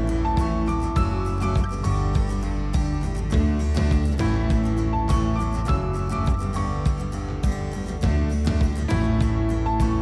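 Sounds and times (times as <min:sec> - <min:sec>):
music with plucked notes and beat: 0:00.0 - 0:10.0.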